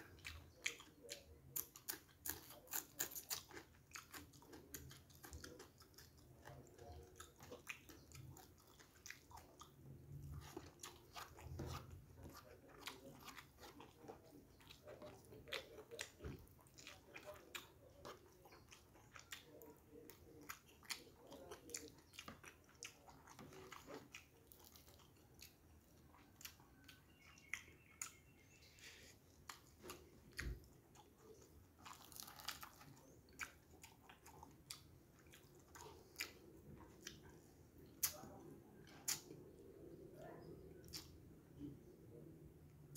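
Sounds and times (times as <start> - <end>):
chewing mouth clicks and smacks: 0.0 - 28.2, 29.4 - 39.5, 40.7 - 41.2.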